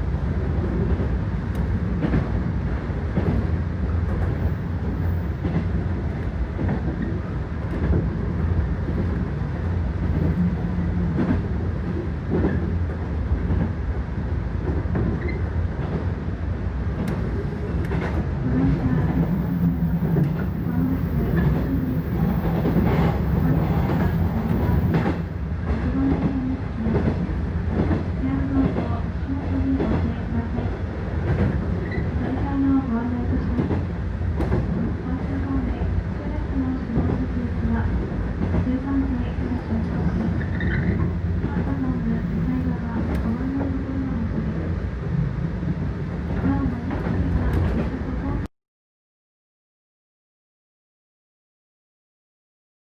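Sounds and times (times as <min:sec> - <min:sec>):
freight train rumbling: 0:00.0 - 0:48.5.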